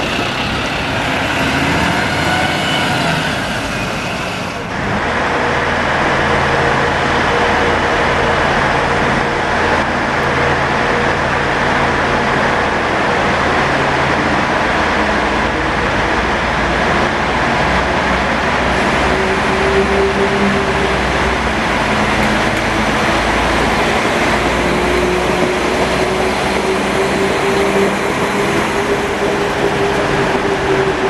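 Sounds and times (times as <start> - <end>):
diesel train engines droning: 0.0 - 31.0.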